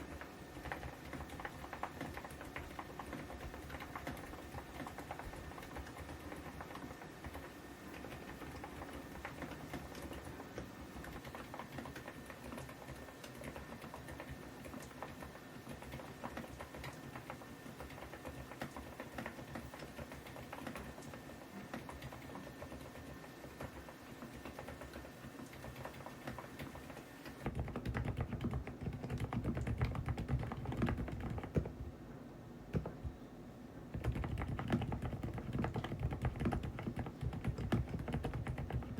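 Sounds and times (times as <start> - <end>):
mechanical keyboard typing: 0.0 - 31.8, 32.7 - 33.1, 33.9 - 38.9.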